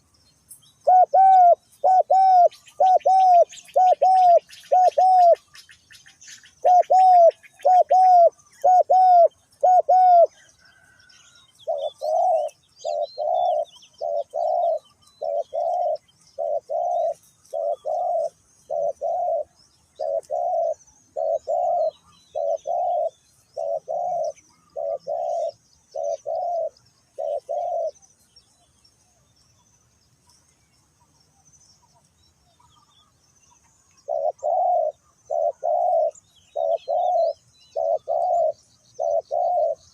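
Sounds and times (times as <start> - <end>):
small birds chirping faintly: 0.0 - 39.9
dove cooing: 0.8 - 28.0, 34.0 - 39.9.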